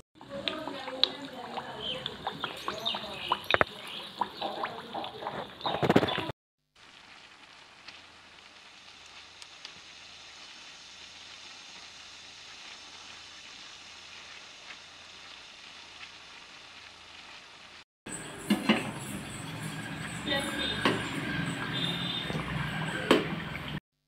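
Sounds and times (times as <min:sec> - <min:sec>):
hot oil sizzling: 0:00.0 - 0:23.8.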